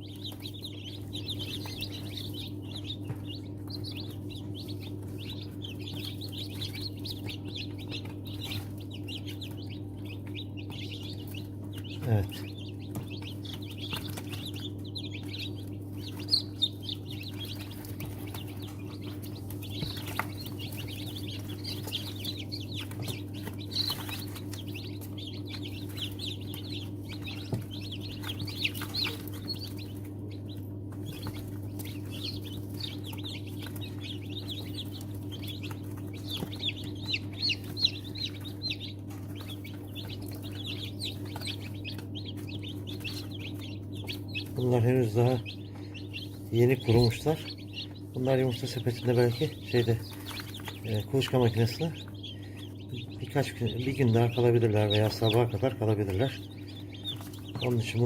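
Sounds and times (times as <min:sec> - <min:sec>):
chicks peeping: 0:00.0 - 0:58.0
steady low hum: 0:00.0 - 0:58.0.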